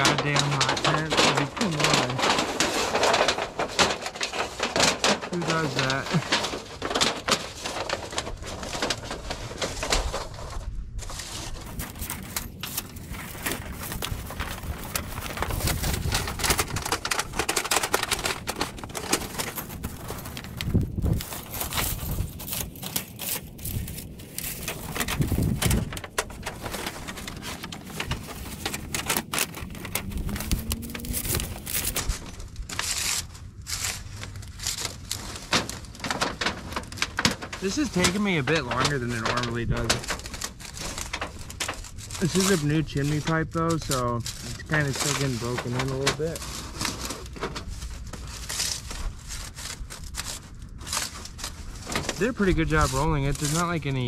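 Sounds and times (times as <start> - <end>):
thin metal sheet crinkling: 0.0 - 54.0.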